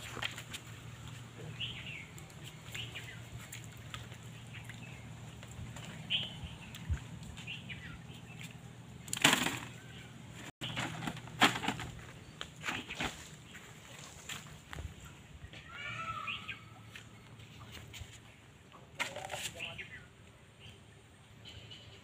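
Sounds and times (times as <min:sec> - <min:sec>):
faint outdoor hum: 0:00.0 - 0:22.0.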